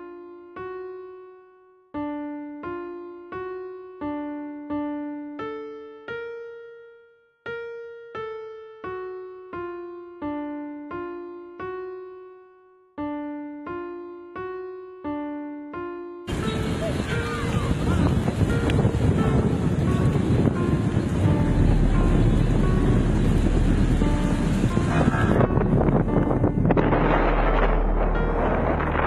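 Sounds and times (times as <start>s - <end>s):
slow keyboard melody: 0.0s - 29.0s.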